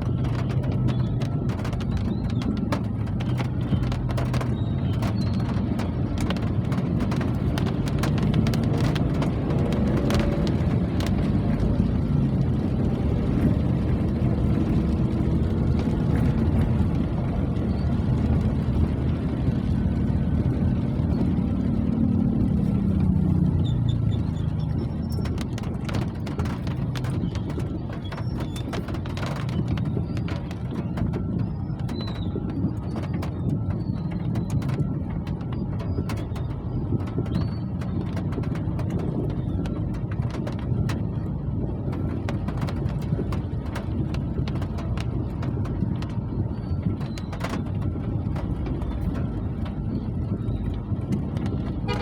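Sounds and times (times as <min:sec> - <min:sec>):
low rumble: 0:00.0 - 0:52.0
rain falling: 0:00.0 - 0:52.0.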